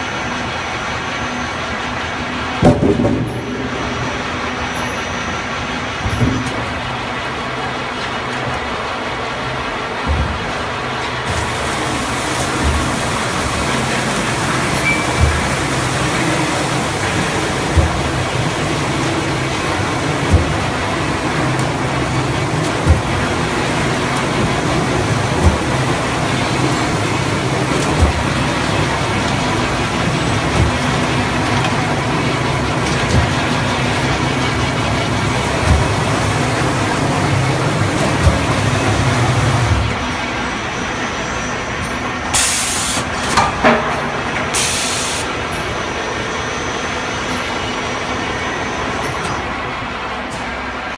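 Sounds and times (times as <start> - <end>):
loud industrial lathe noise: 3.3 - 50.9.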